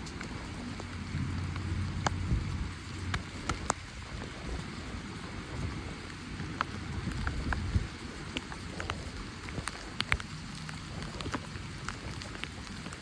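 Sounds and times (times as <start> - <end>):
sharp taps of raindrops: 0.0 - 13.0
steady rain on wooden deck and water: 0.0 - 13.0.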